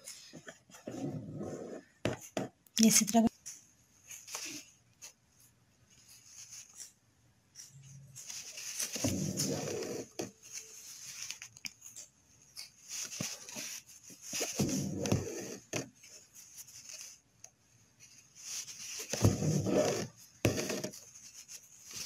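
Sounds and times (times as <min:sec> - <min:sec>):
needle and thread through cloth: 0:00.0 - 0:22.0.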